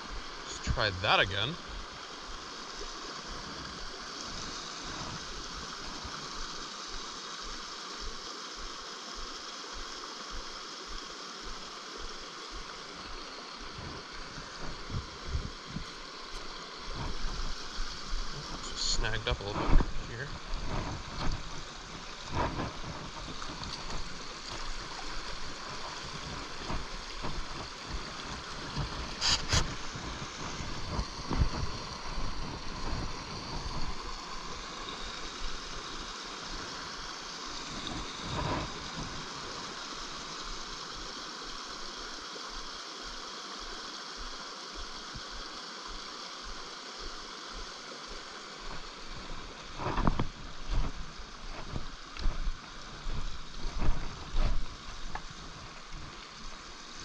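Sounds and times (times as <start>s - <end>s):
brook running over rocks: 0.0s - 57.0s.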